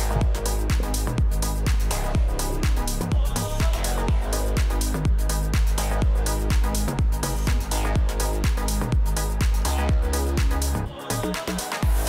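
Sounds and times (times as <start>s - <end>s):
kick drum: 0.0s - 11.0s
electronic dance music: 0.0s - 12.0s.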